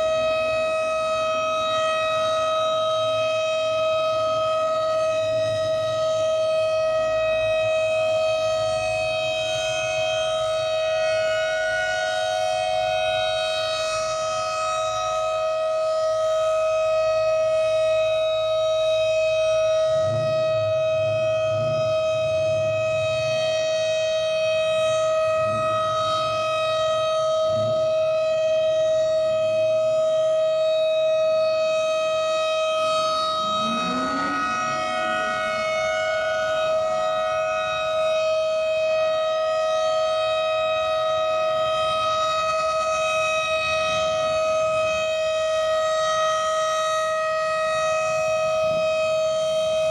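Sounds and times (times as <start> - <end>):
rotating warning siren: 0.0 - 49.9.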